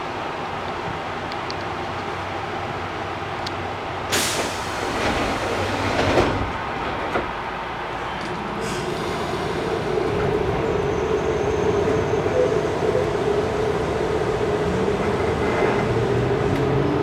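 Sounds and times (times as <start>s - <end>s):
train car hum and rumble: 0.0s - 17.0s.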